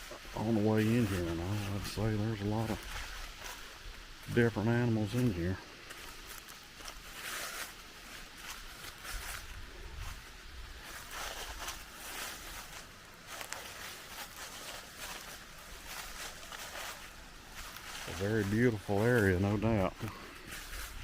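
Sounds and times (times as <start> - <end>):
footsteps on dirt road: 0.0 - 21.0.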